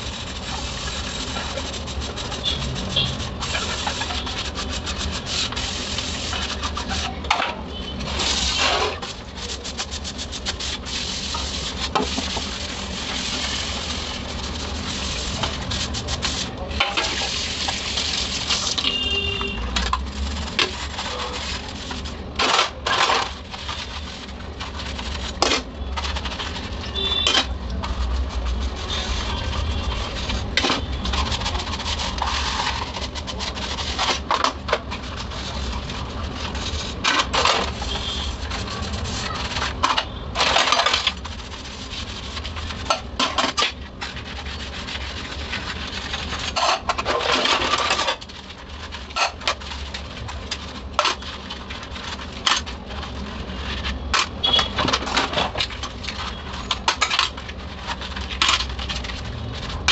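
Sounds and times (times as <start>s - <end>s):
sponge scrubbing steel dishes: 0.0s - 59.9s.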